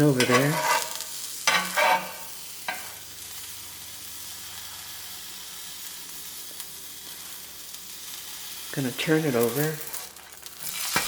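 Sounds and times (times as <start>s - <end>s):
butter sizzling in a pan: 0.0s - 11.0s.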